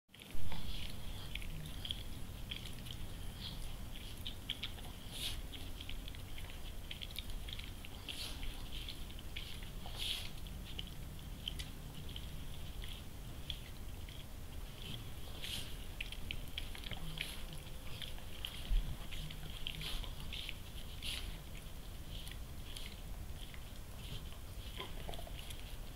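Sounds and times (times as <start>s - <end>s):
dog licking and slurping: 0.1s - 25.9s.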